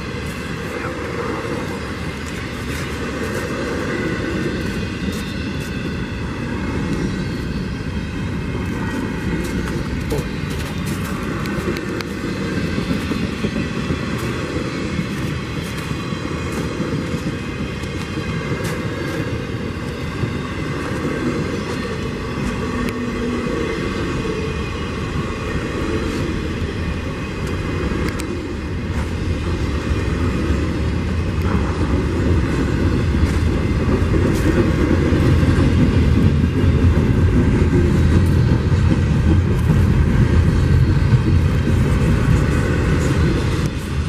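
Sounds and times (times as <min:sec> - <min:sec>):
sharp clicks of train wheels: 0:00.0 - 0:44.0
steel wheels rolling on rail: 0:00.0 - 0:44.0.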